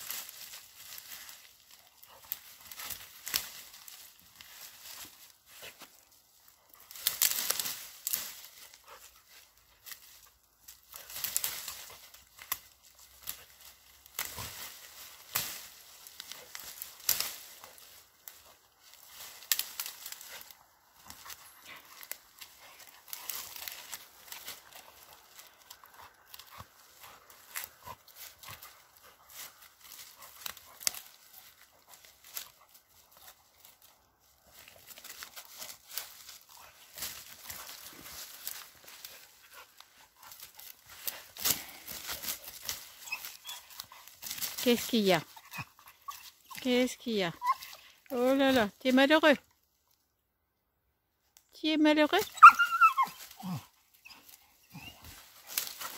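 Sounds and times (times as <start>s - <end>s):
dog gnawing at branches: 0.0s - 46.5s, 53.0s - 55.9s
twigs and leaves rustling and snapping: 0.0s - 50.1s, 51.2s - 55.9s.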